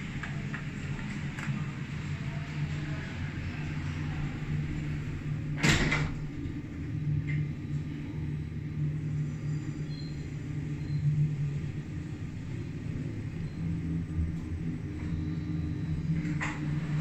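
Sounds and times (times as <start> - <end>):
lift humming: 0.0 - 17.0.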